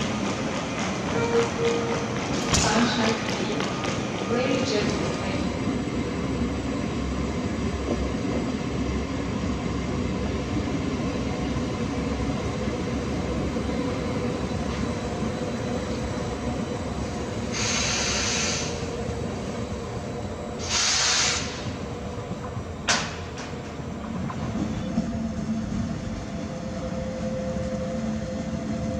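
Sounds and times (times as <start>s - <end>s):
train rumbling: 0.0s - 28.9s.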